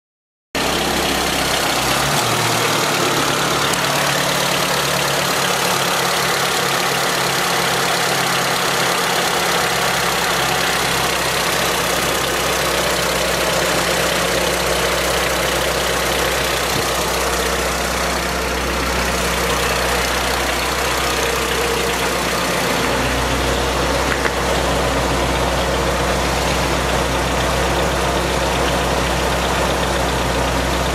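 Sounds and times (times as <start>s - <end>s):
car engine idling: 0.6s - 30.9s
mechanical engine knocking: 0.6s - 30.9s.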